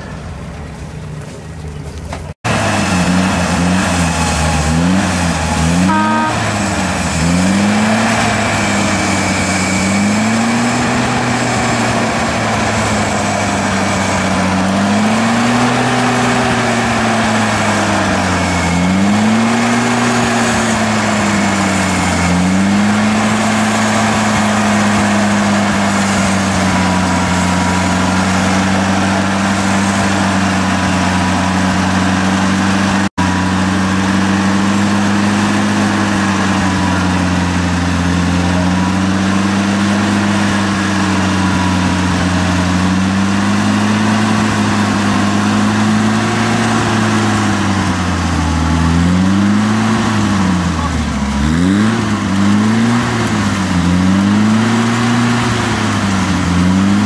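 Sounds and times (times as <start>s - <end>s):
jeep engine revving in mud: 0.0s - 57.0s.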